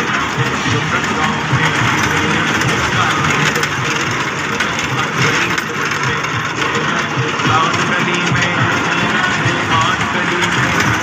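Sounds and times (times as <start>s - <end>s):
fairground ride machinery din: 0.0s - 11.0s.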